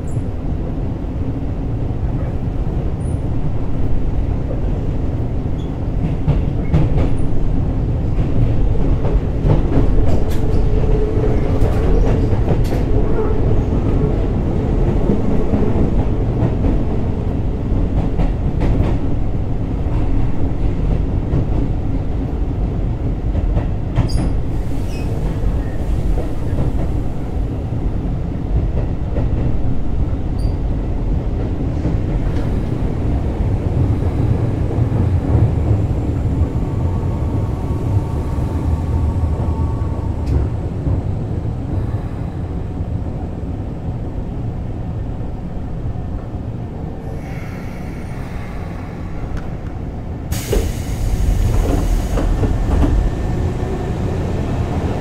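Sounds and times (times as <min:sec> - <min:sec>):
rush of train noise: 0:00.0 - 0:55.0
train wheels rumbling on rails: 0:00.0 - 0:55.0.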